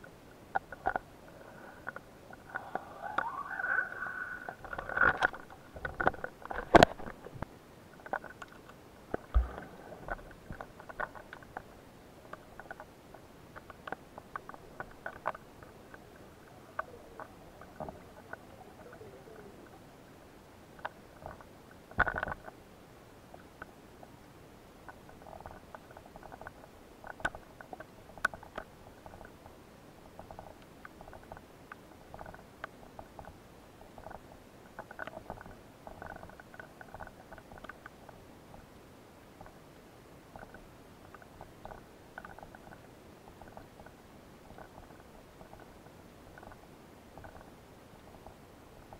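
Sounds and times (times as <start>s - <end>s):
faint underwater clicks and crackles: 0.0s - 48.9s
low hiss: 0.0s - 48.9s.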